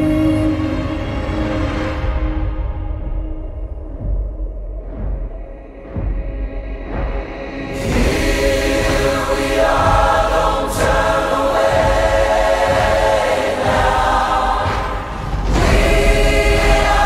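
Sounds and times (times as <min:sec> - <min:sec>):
choir singing sustained chords: 0:00.0 - 0:03.8, 0:06.4 - 0:17.0
low rumble: 0:00.0 - 0:17.0.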